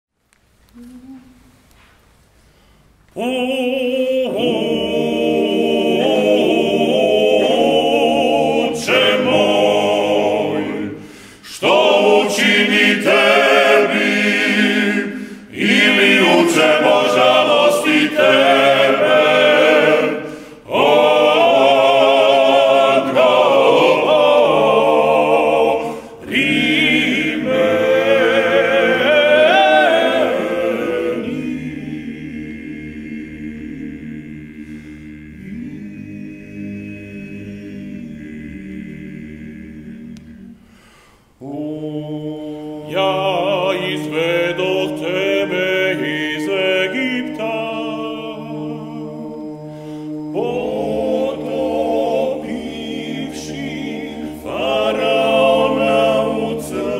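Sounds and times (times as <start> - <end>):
male ensemble singing a cappella: 3.1 - 40.8, 41.4 - 56.9.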